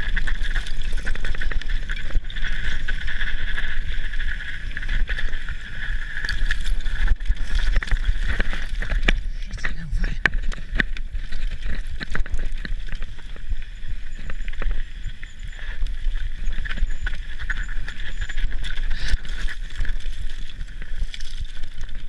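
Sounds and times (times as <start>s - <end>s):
bike tyres crunching on scree: 0.0s - 22.0s
stones clicking and bike rattling: 0.0s - 22.0s.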